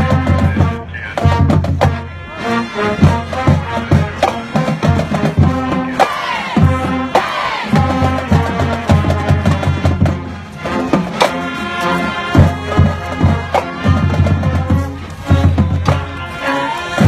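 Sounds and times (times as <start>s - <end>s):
drum and percussion hits: 0.0s - 2.1s, 3.0s - 11.5s, 12.4s - 16.2s
school band playing: 0.0s - 17.0s.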